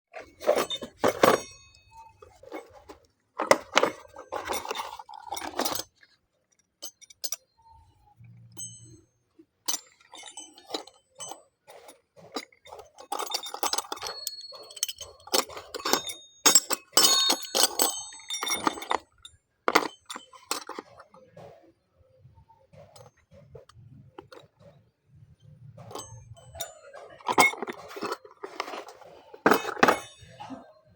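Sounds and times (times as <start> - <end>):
metal parts clinking and rattling: 0.1 - 30.9.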